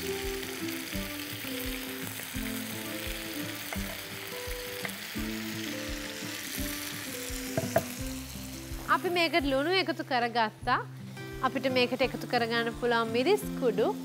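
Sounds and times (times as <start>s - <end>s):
background music: 0.0s - 14.0s
food sizzling in hot oil: 0.0s - 14.0s.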